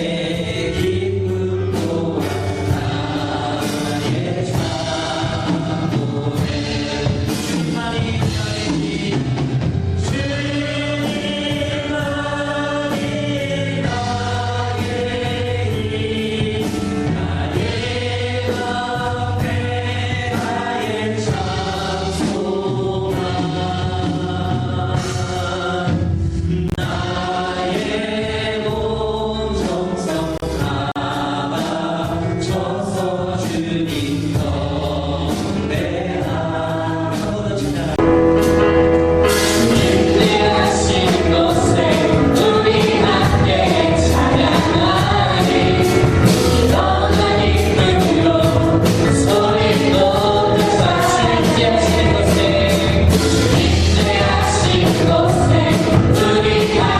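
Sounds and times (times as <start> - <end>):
group singing worship song: 0.0 - 38.6, 39.2 - 56.9
band accompaniment with steady beat: 0.0 - 56.9.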